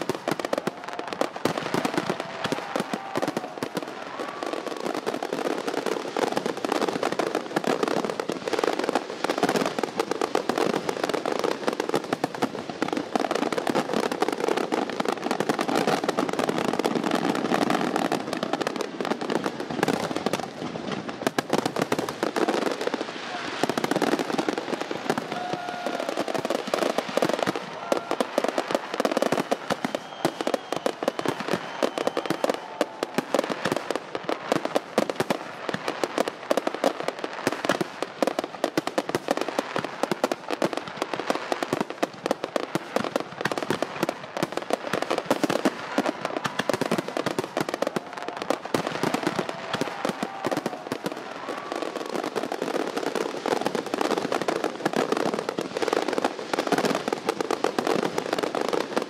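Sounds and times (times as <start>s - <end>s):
fireworks popping and banging: 0.0s - 59.0s.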